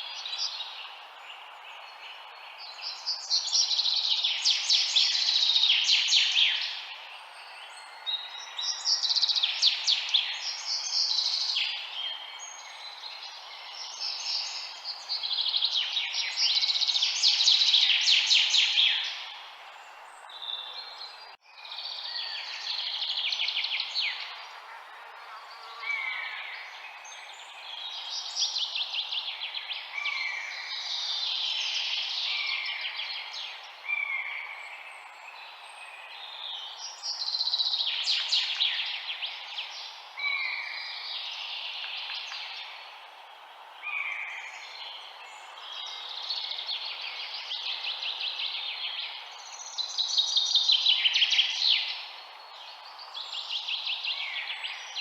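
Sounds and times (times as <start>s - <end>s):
songbirds chirping and trilling: 0.0s - 55.0s
steady background hiss: 0.0s - 55.0s.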